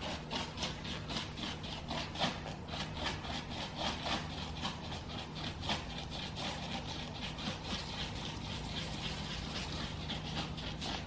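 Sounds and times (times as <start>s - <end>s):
filler being scraped while mixing: 0.0s - 11.0s.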